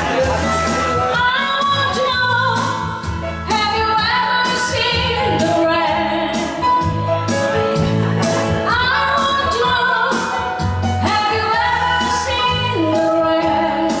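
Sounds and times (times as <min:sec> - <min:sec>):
steady bass line: 0:00.0 - 0:04.3, 0:04.9 - 0:13.9
instrumental accompaniment: 0:00.0 - 0:14.0
woman singing: 0:00.1 - 0:06.7, 0:08.6 - 0:14.0.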